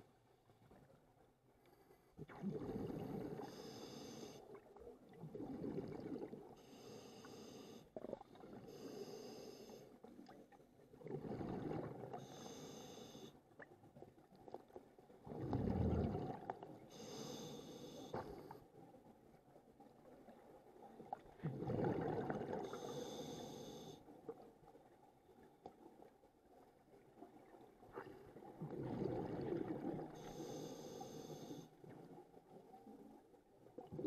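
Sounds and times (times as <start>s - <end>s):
exhaled bubbles gurgling underwater: 2.2s - 34.0s.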